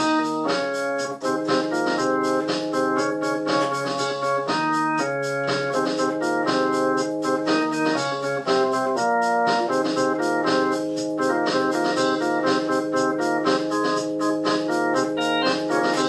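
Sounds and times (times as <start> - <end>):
electronic organ music with beat: 0.0 - 16.0.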